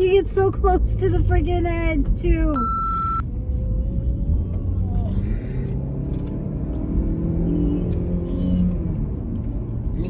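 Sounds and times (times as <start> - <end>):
car engine running: 0.0 - 10.0
low road rumble: 0.0 - 10.0.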